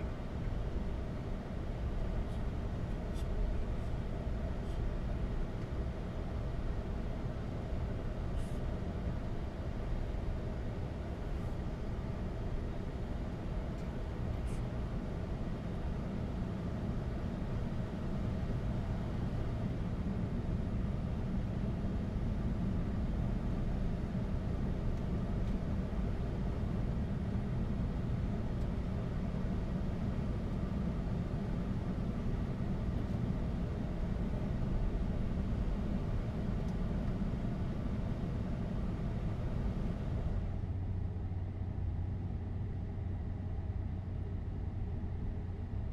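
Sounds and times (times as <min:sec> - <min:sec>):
aircraft engines low rumble: 0:00.0 - 0:45.9.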